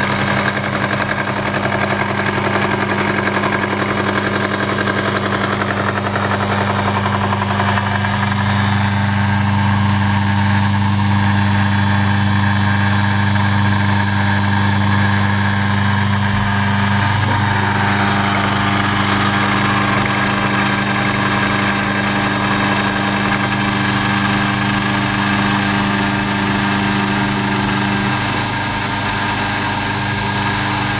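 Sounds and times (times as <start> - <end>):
cutter cutting metal: 0.0 - 30.9
milling motor humming: 0.0 - 30.9.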